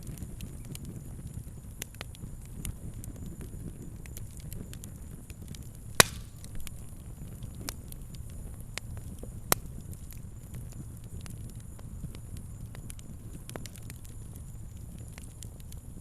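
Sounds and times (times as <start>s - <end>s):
fire crackling: 0.0s - 16.0s
loud sharp pops from fire: 0.0s - 16.0s.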